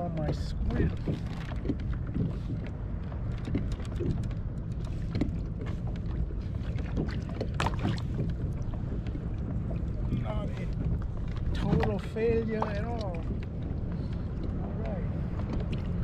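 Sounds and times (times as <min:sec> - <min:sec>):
wind rumbling on microphone: 0:00.0 - 0:16.0
small knocks and ticks: 0:00.1 - 0:15.9.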